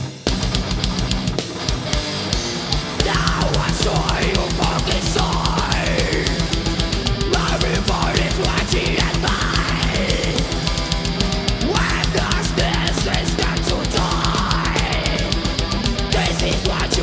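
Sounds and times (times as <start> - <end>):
bass guitar: 0.0 - 17.0
distorted guitars: 0.0 - 17.0
rapid kick drum beat: 0.0 - 17.0.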